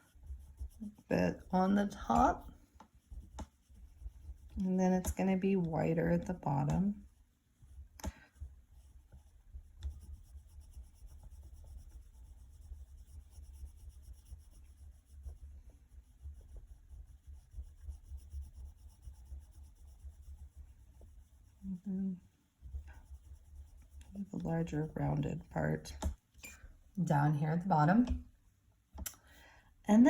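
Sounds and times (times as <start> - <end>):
pencil scratching on paper: 0.0 - 26.1.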